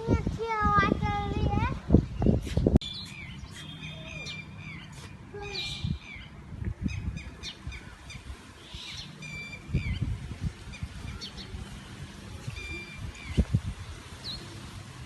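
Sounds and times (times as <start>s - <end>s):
wind rumble on microphone: 0.0s - 3.5s, 4.6s - 15.0s
birds chirping: 2.0s - 14.8s.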